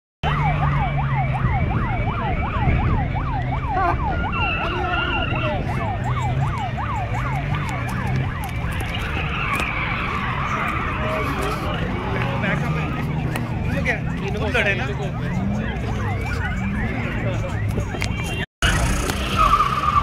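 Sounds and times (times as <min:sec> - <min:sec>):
fire engine siren yelping: 0:00.2 - 0:20.0.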